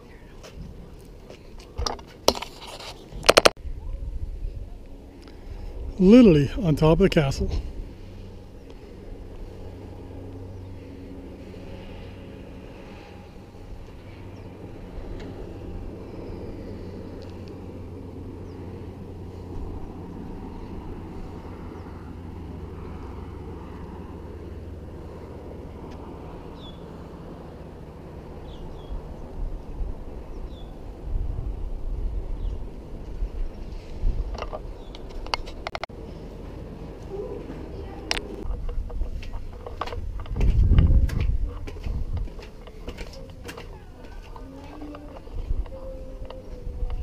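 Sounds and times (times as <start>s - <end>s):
heavy low rumbles: 3.1s - 47.0s
car engine and road hum: 4.6s - 47.0s.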